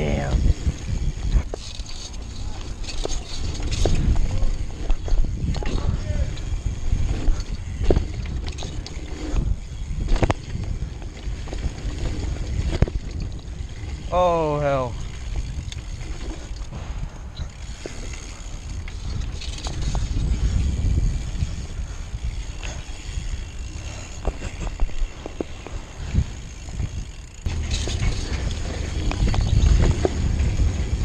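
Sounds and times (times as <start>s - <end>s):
bike clicks and rattles: 0.0s - 31.0s
bike rolling over dirt: 0.0s - 31.0s.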